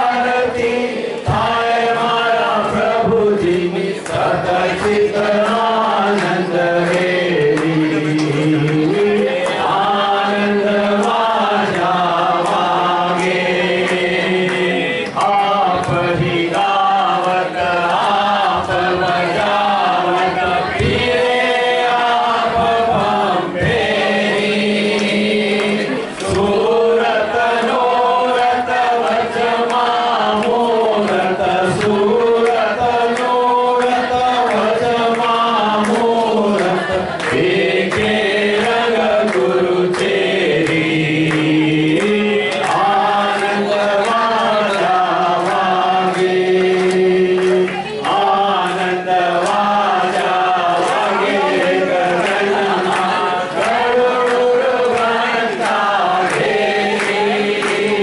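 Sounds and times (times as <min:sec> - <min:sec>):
group singing in unison: 0:00.0 - 0:58.0
hand claps: 0:00.0 - 0:58.0.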